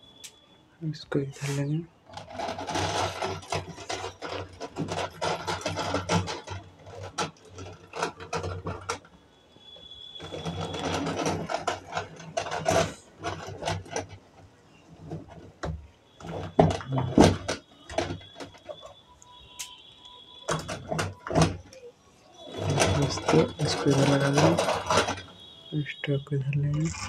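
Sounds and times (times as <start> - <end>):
plastic toy wheels clattering: 2.1 - 25.6, 26.6 - 27.0.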